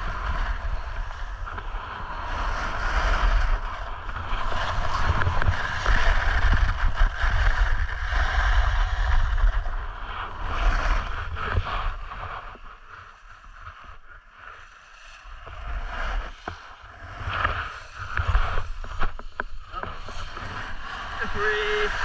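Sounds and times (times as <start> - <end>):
snowboard scraping over snow: 0.0 - 14.6, 15.2 - 22.0
wind rumbling on microphone: 0.0 - 22.0.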